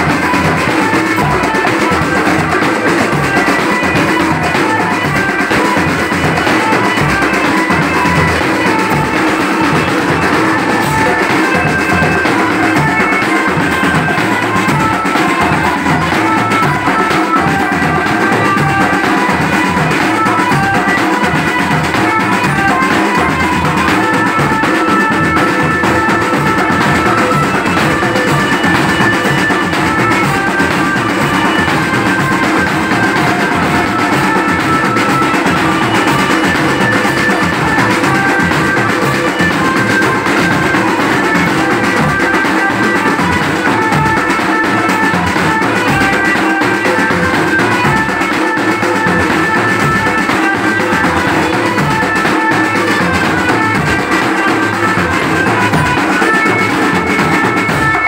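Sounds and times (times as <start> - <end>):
band melody: 0.0 - 58.0
marching drums: 0.0 - 58.0.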